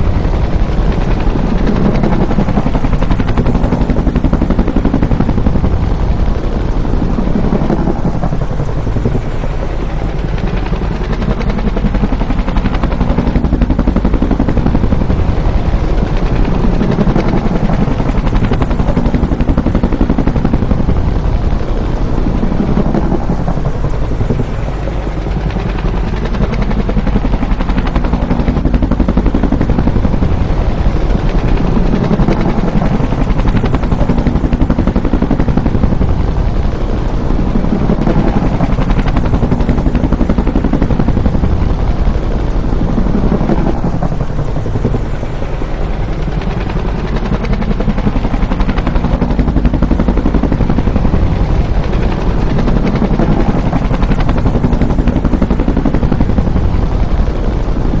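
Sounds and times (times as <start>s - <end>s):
helicopter rotor chopping: 0.0s - 58.0s
helicopter turbine noise: 0.0s - 58.0s.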